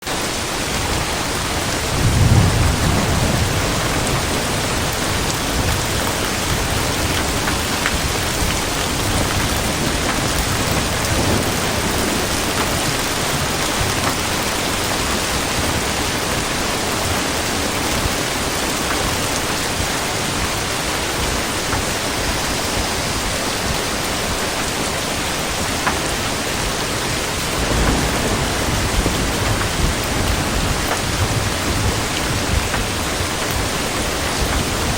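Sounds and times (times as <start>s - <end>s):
steady rainfall: 0.0s - 34.9s
thunder rumbling: 0.1s - 34.9s.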